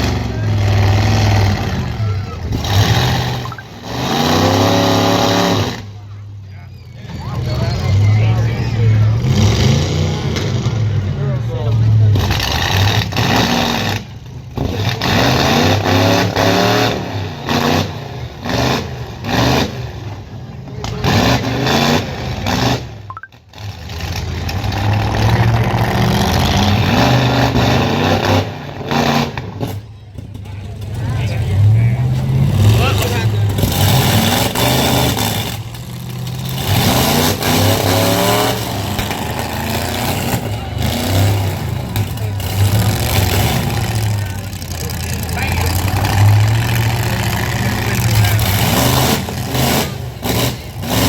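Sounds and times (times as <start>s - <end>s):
truck engine revving hard: 0.0s - 51.0s.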